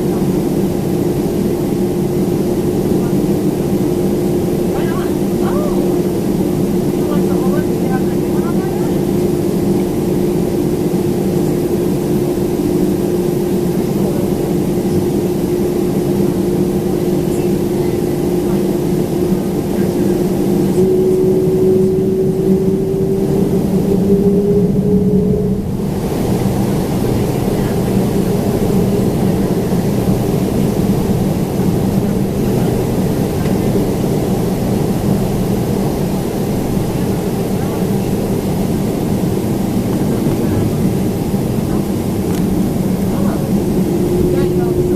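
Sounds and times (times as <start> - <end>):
jet engines droning in cabin: 0.0 - 44.9.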